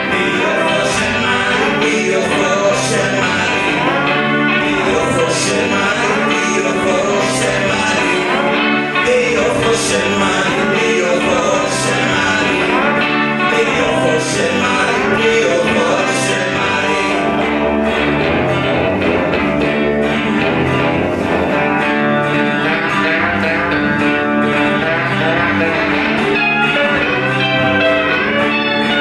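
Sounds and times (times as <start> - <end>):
person singing: 0.0 - 20.8, 21.5 - 29.0
pop-rock band music: 0.0 - 29.0.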